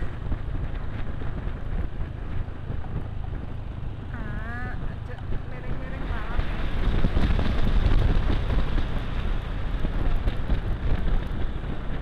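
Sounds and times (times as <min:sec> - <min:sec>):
scooter engine and road noise: 0:00.0 - 0:12.0
wind buffeting microphone: 0:00.0 - 0:12.0.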